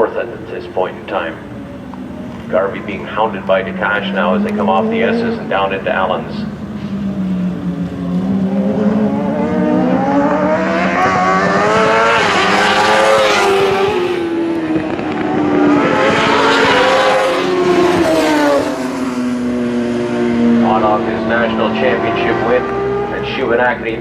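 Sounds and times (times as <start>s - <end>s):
superbikes accelerating past: 1.2s - 24.0s.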